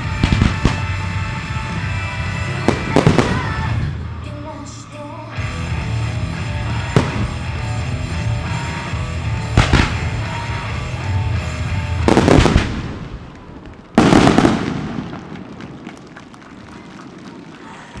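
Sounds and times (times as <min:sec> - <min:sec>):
fireworks bursting: 0:00.0 - 0:04.6, 0:06.6 - 0:10.6, 0:11.9 - 0:18.0
background music: 0:00.0 - 0:14.5.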